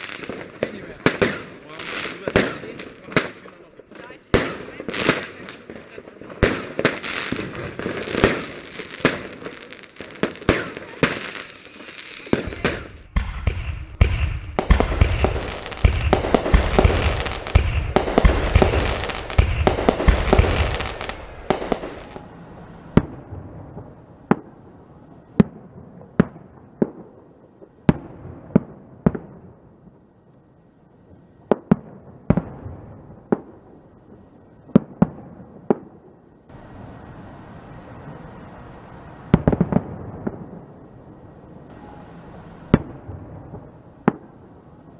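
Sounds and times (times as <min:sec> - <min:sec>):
fireworks bangs and crackle: 0:00.0 - 0:30.0, 0:31.2 - 0:44.9.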